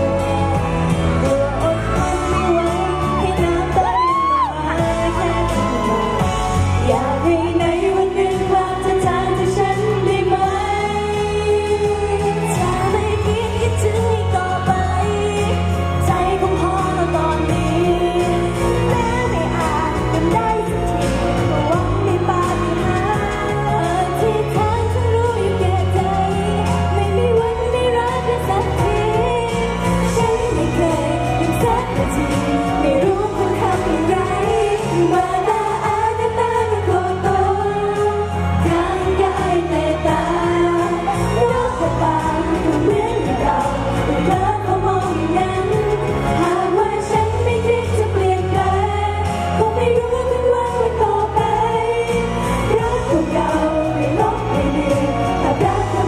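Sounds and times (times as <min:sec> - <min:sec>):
women singing pop song: 0:00.0 - 0:56.0.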